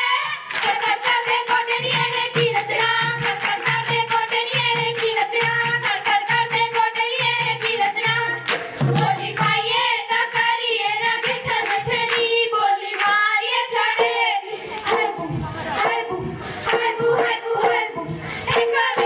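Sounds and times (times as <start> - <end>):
girls singing in chorus: 0.0 - 19.0
rhythmic hand claps: 0.0 - 19.0.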